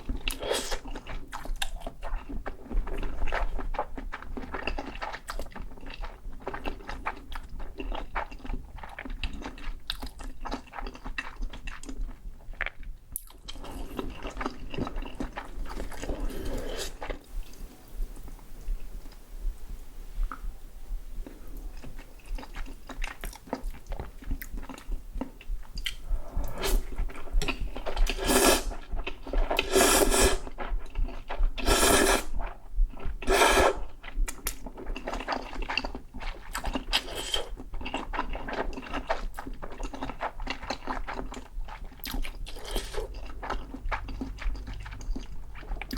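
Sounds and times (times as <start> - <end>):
wet chewing: 0.0 - 19.2, 21.2 - 45.9.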